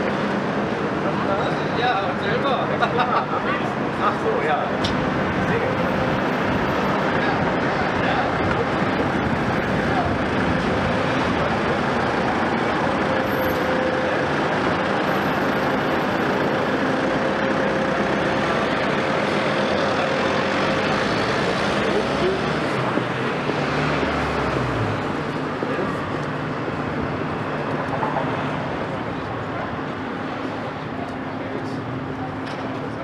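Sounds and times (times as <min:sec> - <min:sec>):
heavy diesel engine running: 0:00.0 - 0:33.0
road traffic noise: 0:00.0 - 0:33.0.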